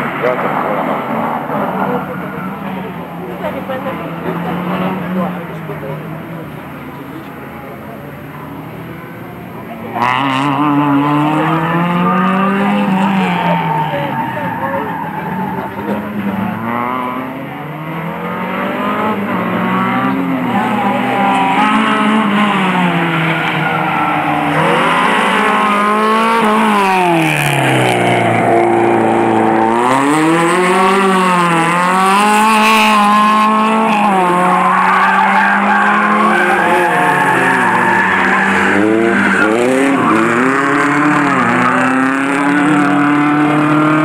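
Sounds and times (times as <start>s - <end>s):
race car engine revving: 0.0s - 44.0s.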